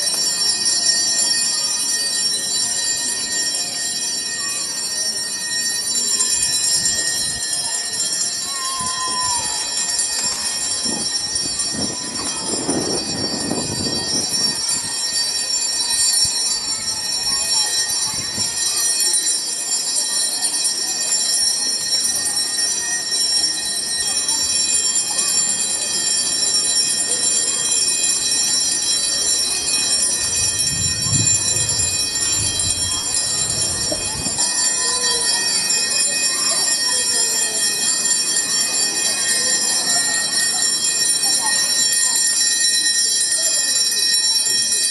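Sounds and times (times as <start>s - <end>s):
small bells jingling: 0.0s - 44.9s.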